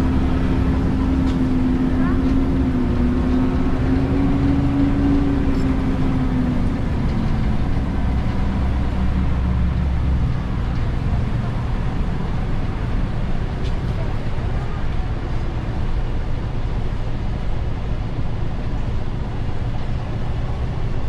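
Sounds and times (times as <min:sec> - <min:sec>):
bus engine and road rumble: 0:00.0 - 0:21.0
pitched engine hum: 0:00.0 - 0:21.0.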